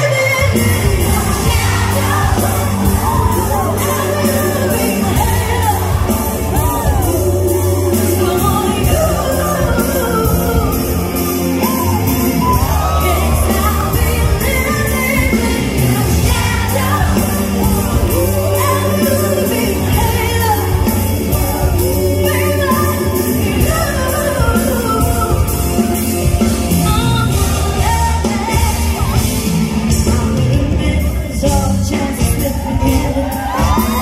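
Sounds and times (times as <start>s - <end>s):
backing music with bass: 0.0s - 34.0s
woman singing into microphone: 0.0s - 34.0s.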